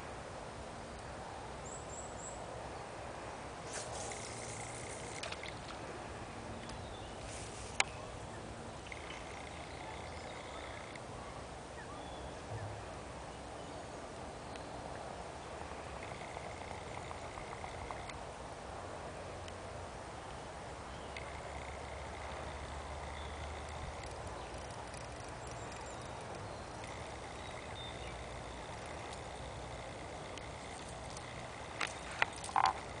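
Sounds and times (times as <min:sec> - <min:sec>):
outdoor background hiss: 0:00.0 - 0:33.0.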